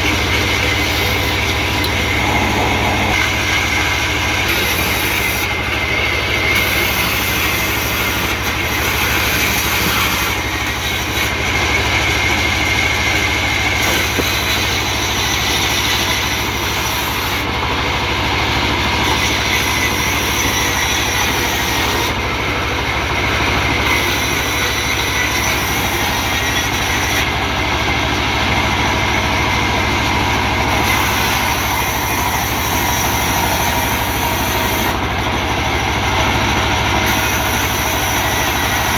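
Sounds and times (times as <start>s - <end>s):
band saw cutting timber: 0.0s - 38.9s.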